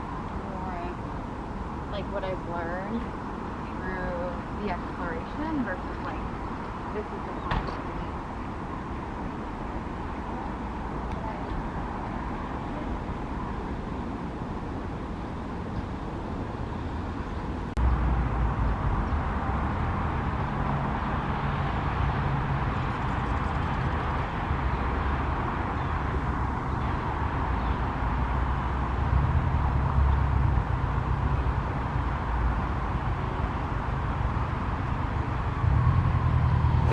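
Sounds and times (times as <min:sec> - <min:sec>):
low outdoor rumble: 0:00.0 - 0:36.9.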